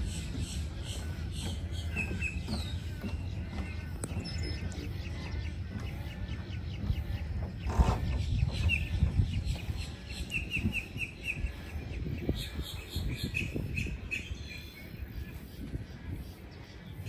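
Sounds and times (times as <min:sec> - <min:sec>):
wetland birds calling: 0:00.0 - 0:17.0.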